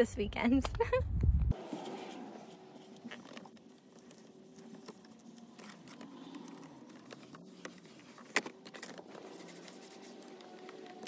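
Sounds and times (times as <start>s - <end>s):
wipe rubbing plastic dashboard: 1.6s - 11.0s.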